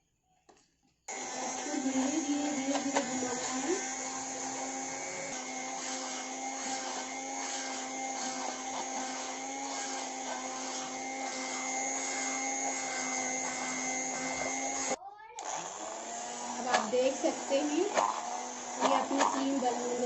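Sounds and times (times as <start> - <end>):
electric hand blender running: 1.1 - 20.0.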